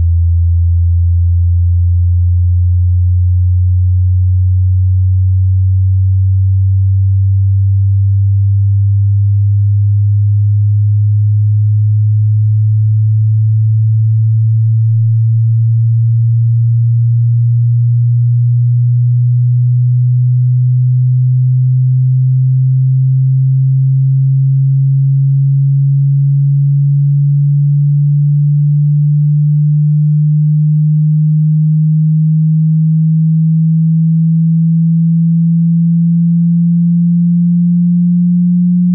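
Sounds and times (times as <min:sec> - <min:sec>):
rising sine tone: 0:00.0 - 0:38.9.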